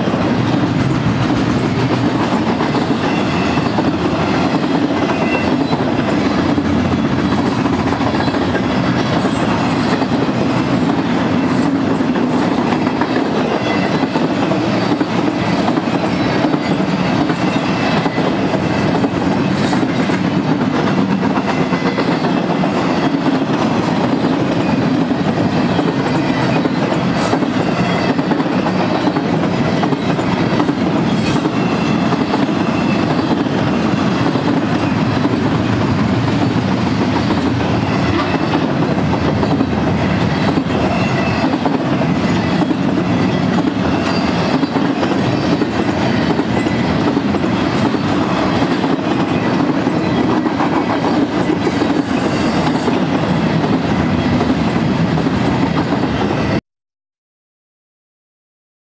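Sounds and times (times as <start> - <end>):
train wheels rumbling and clattering: 0.0 - 56.6.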